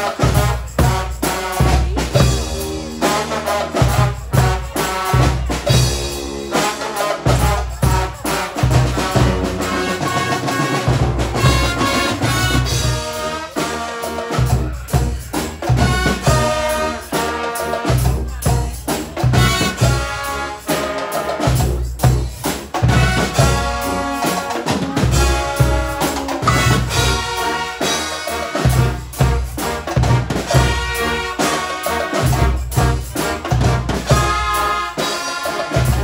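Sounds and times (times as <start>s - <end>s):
marching bass drum beat: 0.0s - 20.8s, 21.4s - 36.0s
brass band playing: 0.0s - 36.0s.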